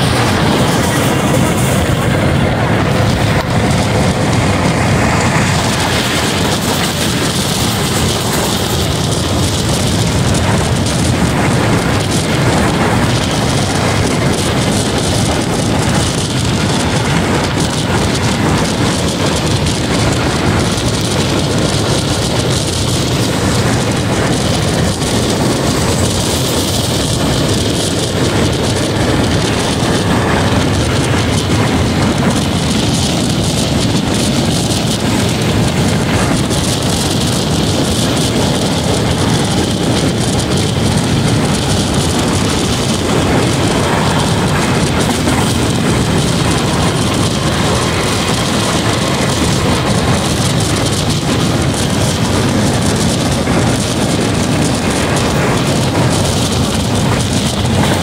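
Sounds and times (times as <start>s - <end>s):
rain: 0.0s - 58.0s
train wheels rumbling on rail: 0.0s - 58.0s.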